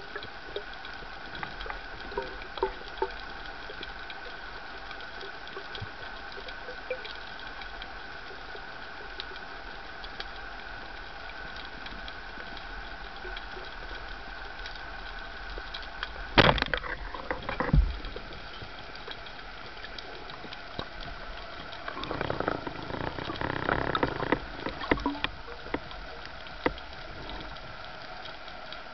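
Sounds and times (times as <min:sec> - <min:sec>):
faint ticks: 0:00.0 - 0:28.9
underwater rushing noise: 0:00.0 - 0:28.9.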